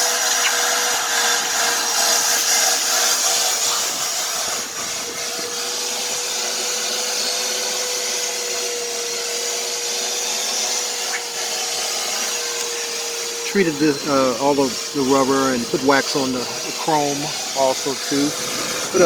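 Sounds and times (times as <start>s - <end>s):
electric fan motor running: 0.0s - 19.0s.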